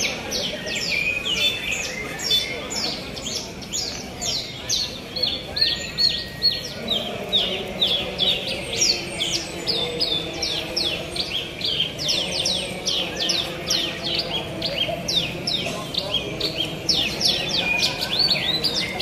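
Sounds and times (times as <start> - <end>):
birds singing high notes: 0.0 - 19.0
faint crowd murmur: 0.0 - 19.0.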